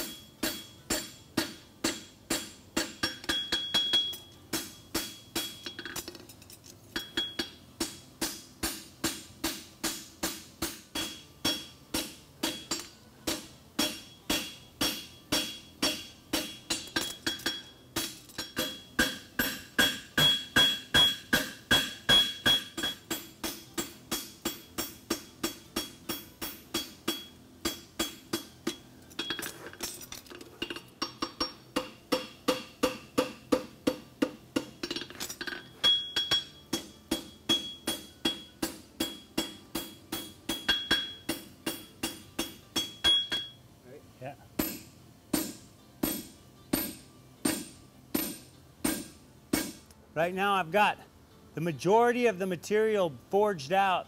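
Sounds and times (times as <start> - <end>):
hammer ringing on anvil: 0.0 - 6.0, 7.0 - 29.5, 30.7 - 43.6, 44.6 - 49.8.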